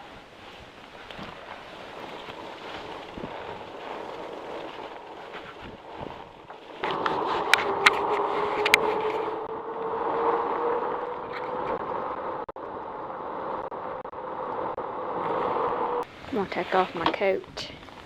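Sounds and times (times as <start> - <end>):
electric bike motor whine: 0.0 - 16.3
rolling and wind noise: 0.0 - 18.0.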